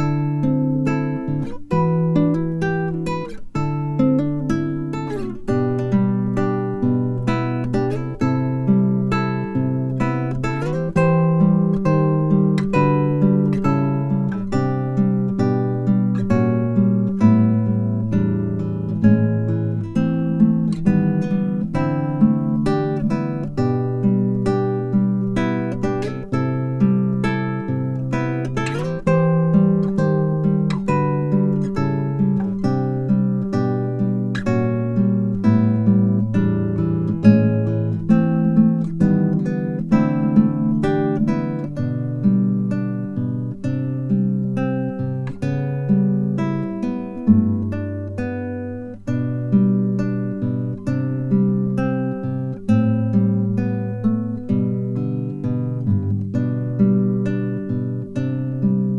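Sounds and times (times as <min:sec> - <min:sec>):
acoustic guitar music: 0:00.0 - 0:58.9.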